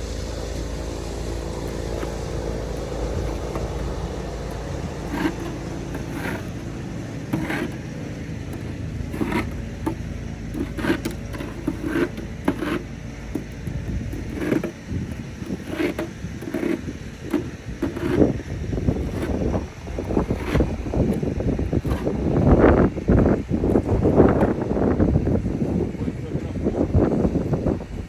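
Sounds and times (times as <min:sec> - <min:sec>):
snowplow engine running: 0:00.0 - 0:28.0
snow shovel scraping on stairs: 0:01.2 - 0:24.9.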